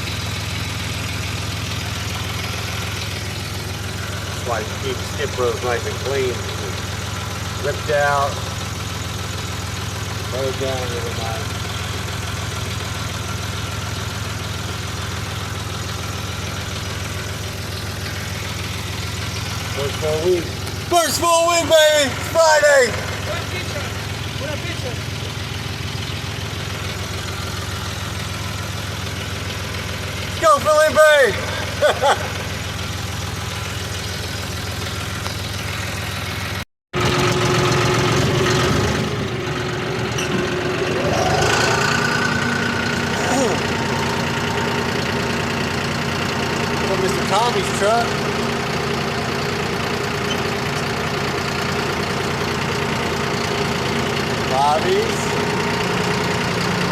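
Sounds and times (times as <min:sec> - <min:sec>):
vehicle engine running steadily: 0:00.0 - 0:56.9.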